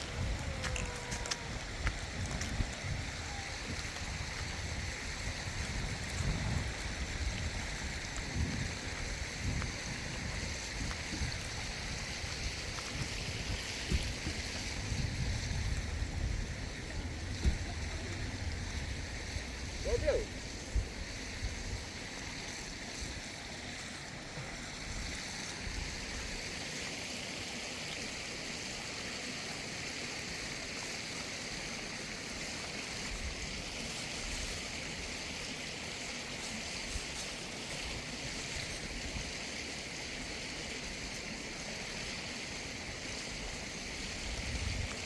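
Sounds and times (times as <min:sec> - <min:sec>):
flowing water rushing: 0:00.0 - 0:45.0.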